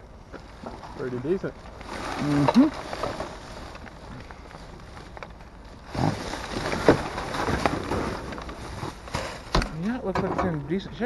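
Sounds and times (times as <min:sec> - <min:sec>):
plastic bags rustling: 0:00.4 - 0:10.1.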